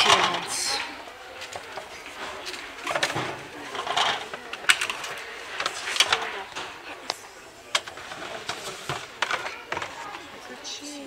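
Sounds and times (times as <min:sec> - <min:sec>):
plastic packaging rustling: 0:00.0 - 0:10.3.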